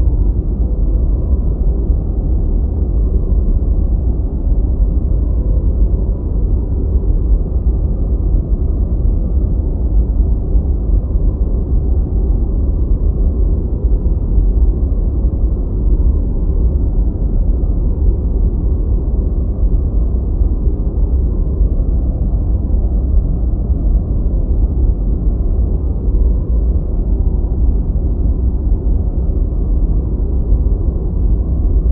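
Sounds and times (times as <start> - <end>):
deep white noise: 0.0 - 31.9.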